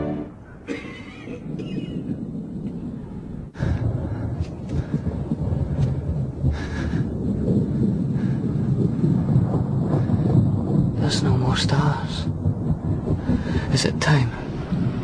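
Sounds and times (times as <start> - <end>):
low steady rumbling: 0.0 - 15.0.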